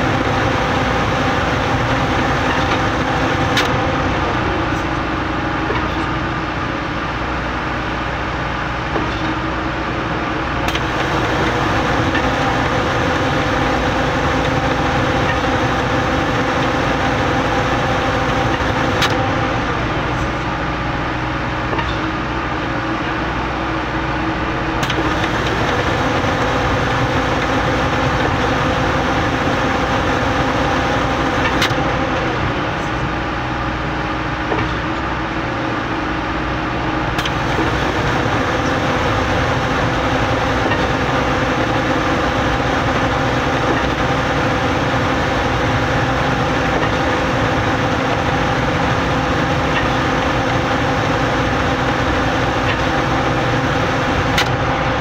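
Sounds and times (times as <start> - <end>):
concrete pump engine droning: 0.0 - 55.0.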